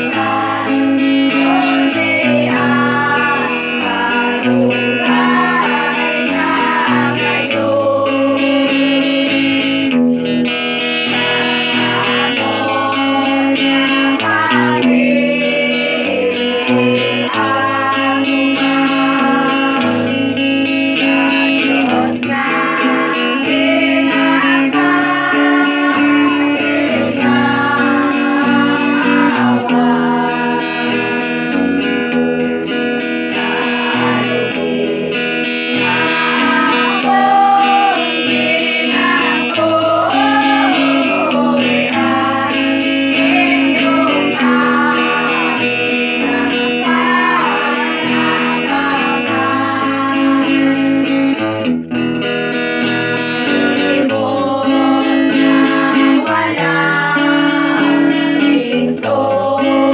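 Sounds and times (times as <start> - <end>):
women singing together: 0.0 - 51.7, 52.8 - 59.9
guitar accompaniment: 0.0 - 59.9.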